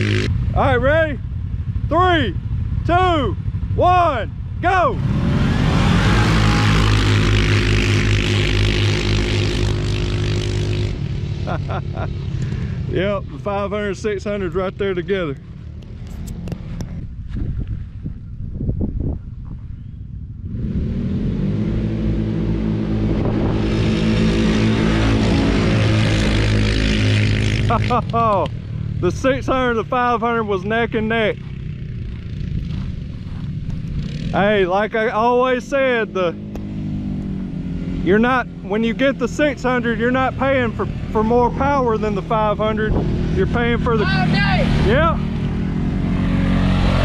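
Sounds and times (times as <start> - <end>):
atv engines revving: 0.0 - 17.1, 20.4 - 47.0.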